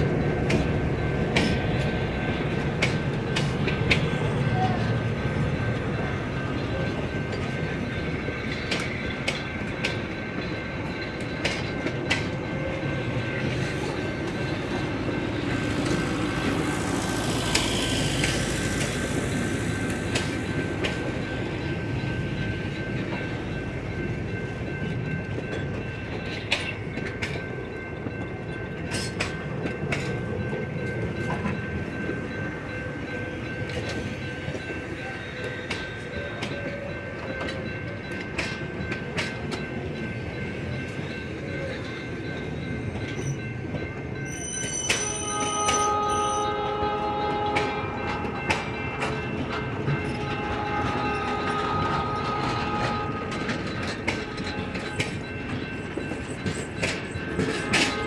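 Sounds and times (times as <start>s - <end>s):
wheels clicking over rail joints: 0.0s - 46.1s, 46.7s - 58.0s
train rumble: 0.0s - 58.0s.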